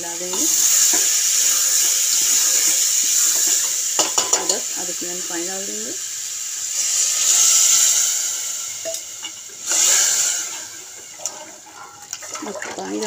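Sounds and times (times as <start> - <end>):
water sizzling in hot oil: 0.0 - 13.0.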